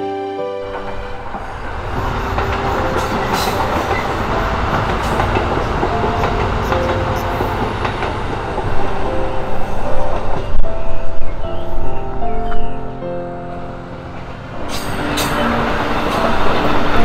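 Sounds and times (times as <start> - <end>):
diesel train passing: 0.2 - 17.0.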